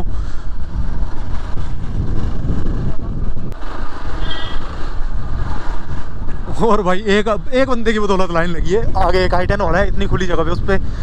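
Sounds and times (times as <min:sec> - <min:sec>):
motorcycle engine running: 0:00.0 - 0:10.0
wind rumble on microphone: 0:00.0 - 0:11.0.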